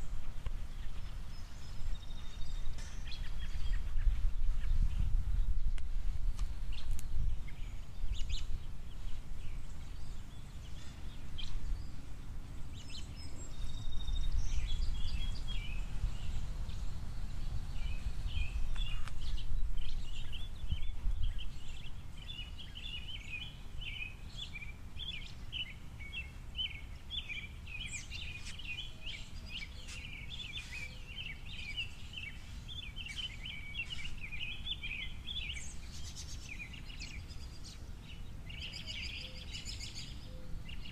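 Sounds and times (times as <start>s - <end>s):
bird chirps: 0.0s - 5.8s, 6.7s - 40.9s
songbird twittering song: 0.0s - 40.9s.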